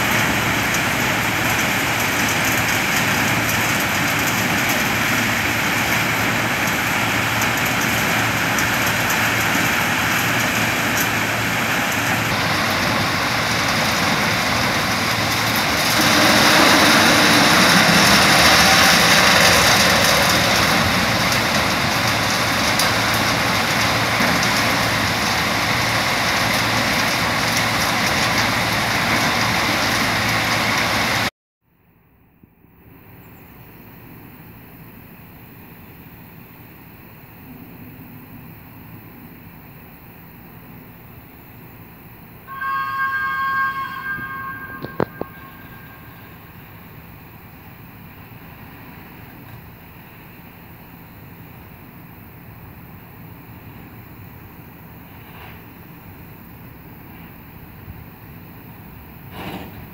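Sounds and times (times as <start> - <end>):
diesel locomotive engine running: 0.0 - 31.3, 32.8 - 59.9
faint wind: 0.0 - 59.9.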